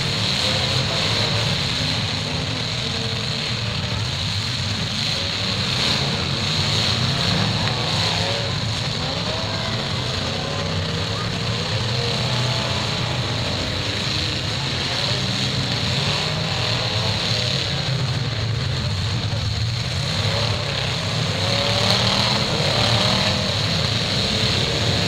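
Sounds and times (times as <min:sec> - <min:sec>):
car engines revving: 0:00.0 - 0:25.0
crowd voices: 0:00.0 - 0:25.0.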